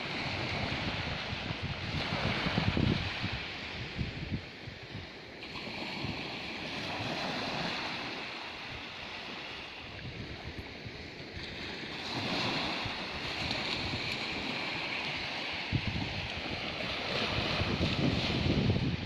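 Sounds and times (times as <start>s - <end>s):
sea waves washing on shore: 0.0s - 19.0s
wind buffeting microphone: 0.0s - 19.0s.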